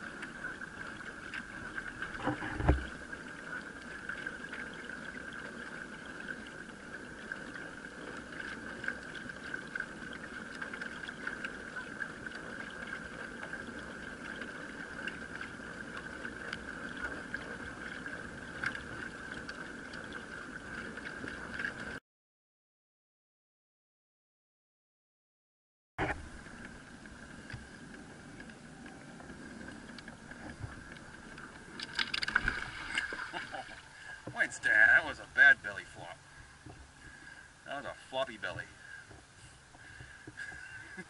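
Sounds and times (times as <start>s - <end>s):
pedal boat drive whirring: 0.0s - 22.0s, 26.0s - 41.0s
water moving along hulls: 0.0s - 22.0s, 26.0s - 41.0s.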